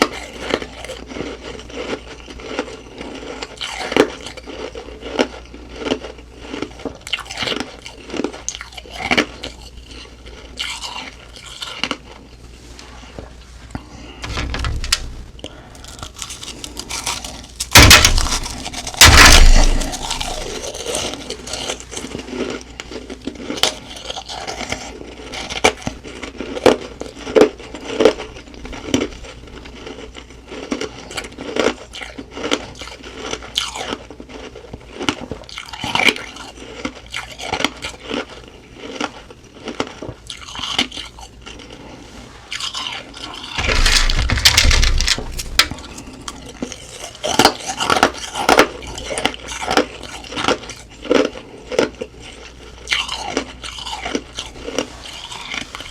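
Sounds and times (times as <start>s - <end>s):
ice being chewed: 0.0s - 14.3s, 15.3s - 55.9s.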